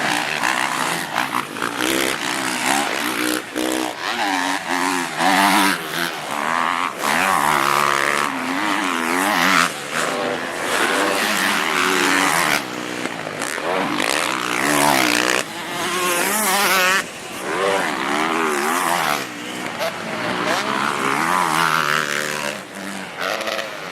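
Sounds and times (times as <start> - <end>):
motocross bike engines revving: 0.0 - 23.9.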